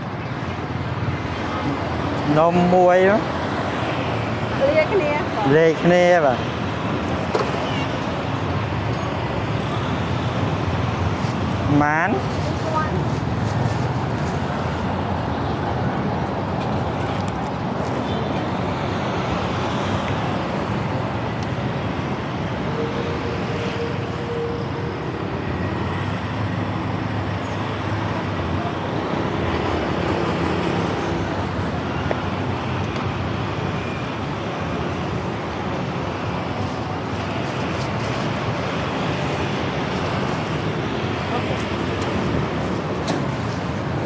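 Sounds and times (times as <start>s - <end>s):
cars and motorbikes passing: 0.0s - 44.0s.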